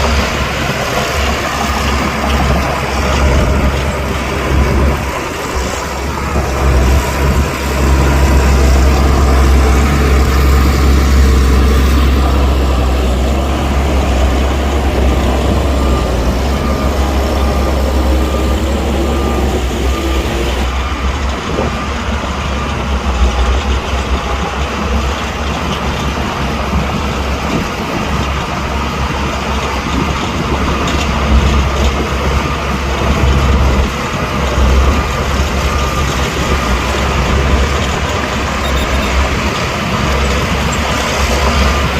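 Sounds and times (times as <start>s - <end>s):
heavy diesel engines droning: 0.0s - 41.9s.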